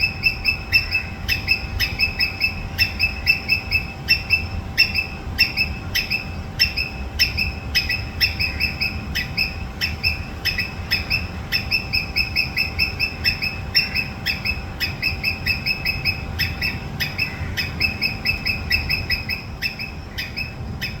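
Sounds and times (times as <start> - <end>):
squirrel chirping calls: 0.0 - 21.0.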